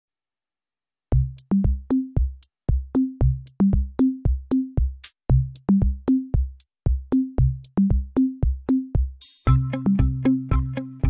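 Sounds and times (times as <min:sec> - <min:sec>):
drum-machine beat: 0:01.1 - 0:11.0.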